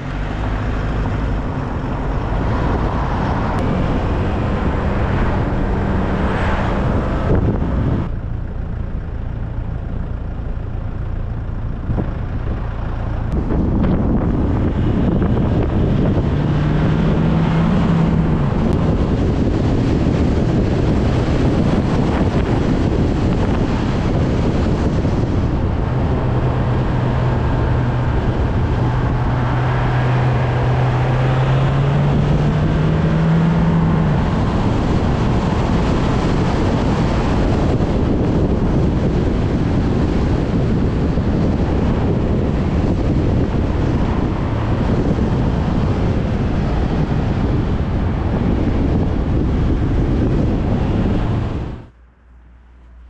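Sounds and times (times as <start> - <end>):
low engine hum: 0.0 - 53.0
road and wind noise: 0.0 - 53.0.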